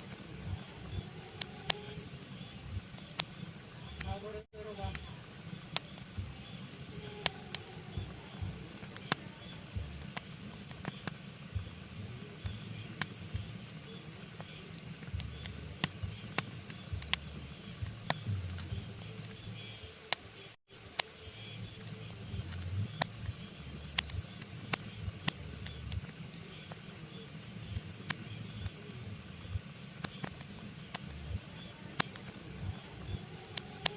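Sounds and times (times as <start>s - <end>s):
fire crackling and popping: 0.0s - 33.9s
logs burning in a fireplace: 0.0s - 33.9s.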